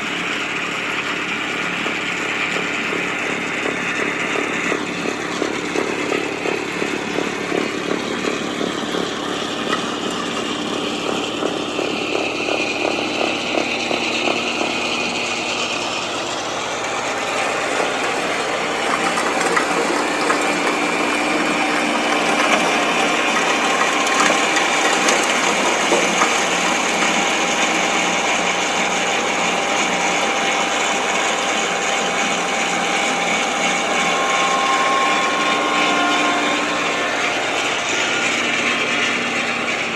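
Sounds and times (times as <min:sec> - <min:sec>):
diesel engine running: 0:00.0 - 0:39.9
snowblower clatter and whir: 0:00.0 - 0:39.9.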